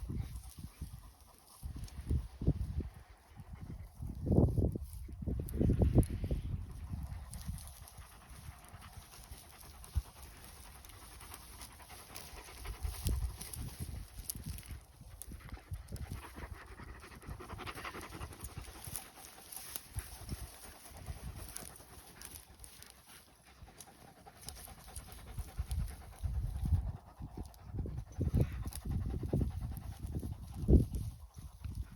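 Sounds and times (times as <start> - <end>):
dog panting: 5.6 - 31.9.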